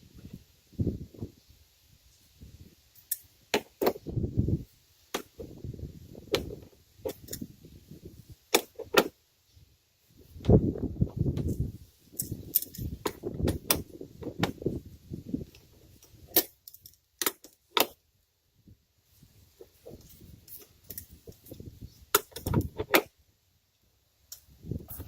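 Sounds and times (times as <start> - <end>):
handling rustle: 1.2 - 18.0, 19.0 - 23.2.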